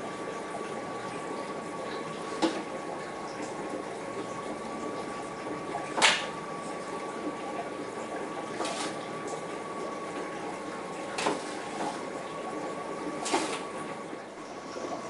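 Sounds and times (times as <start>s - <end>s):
aquarium air pumps bubbling: 0.0s - 15.0s.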